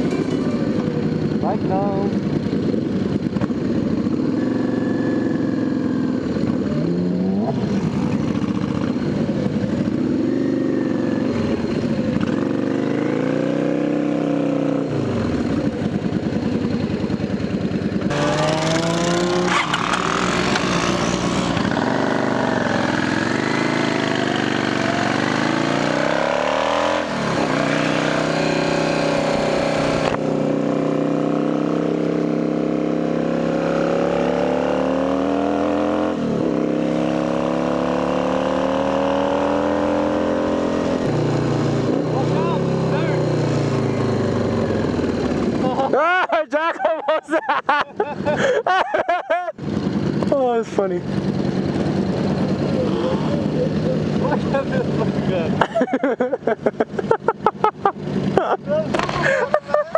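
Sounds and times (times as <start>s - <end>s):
motorcycle engine shifting gears: 0.0s - 46.0s, 49.5s - 59.9s.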